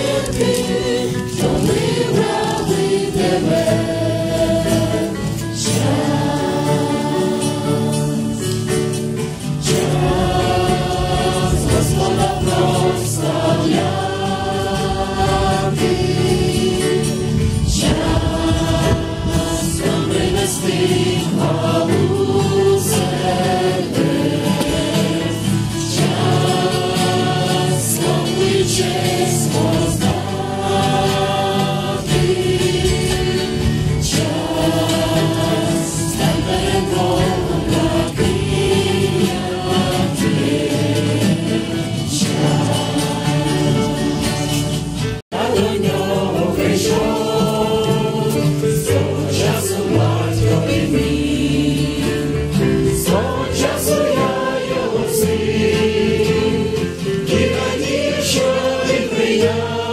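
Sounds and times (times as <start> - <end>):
acoustic guitars: 0.0 - 59.9
group singing a hymn: 0.0 - 59.9.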